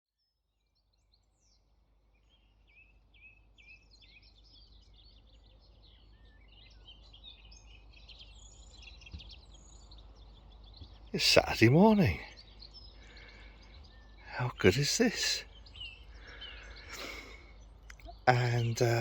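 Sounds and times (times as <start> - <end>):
small birds singing and chirping: 0.2 - 19.0.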